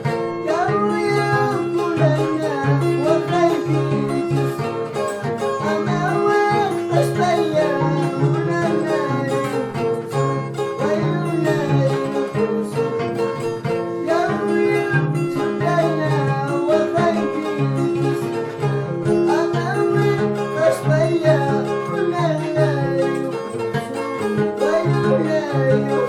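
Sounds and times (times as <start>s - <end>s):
harp music: 0.0s - 26.0s.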